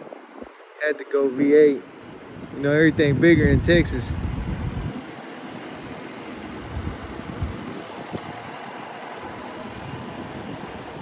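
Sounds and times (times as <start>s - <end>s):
engine idling: 1.6s - 11.0s.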